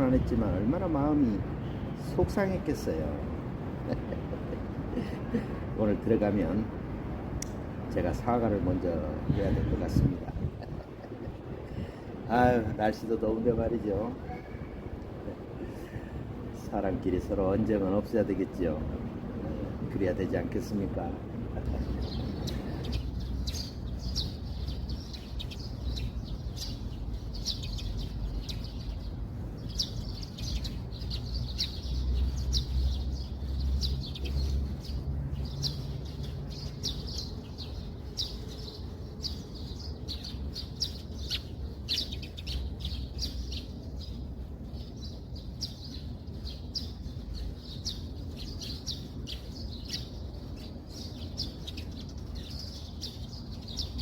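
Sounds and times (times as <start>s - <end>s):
small birds chirping: 0.0s - 54.0s
steady low rumble: 0.0s - 54.0s.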